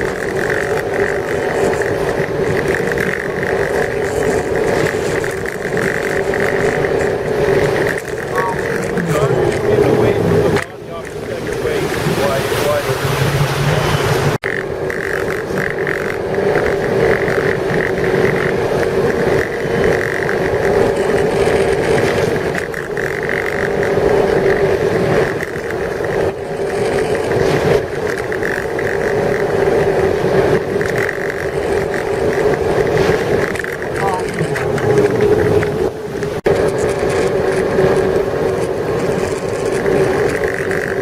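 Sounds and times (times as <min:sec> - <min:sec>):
boat engine drone: 0:00.0 - 0:41.0
rush of wind and water: 0:00.0 - 0:41.0.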